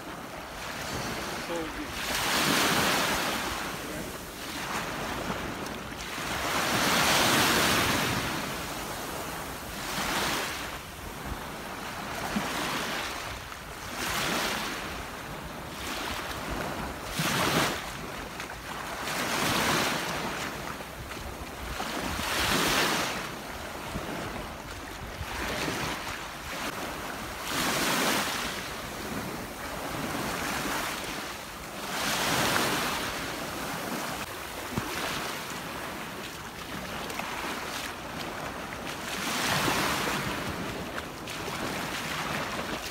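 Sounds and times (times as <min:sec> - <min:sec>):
small waves washing on shore: 0:00.0 - 0:42.9.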